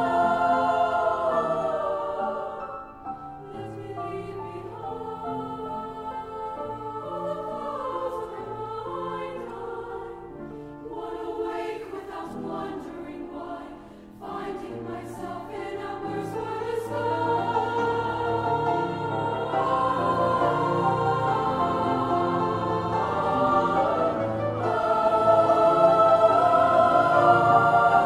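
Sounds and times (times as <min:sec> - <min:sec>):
choir of young women singing: 0:00.0 - 0:28.0.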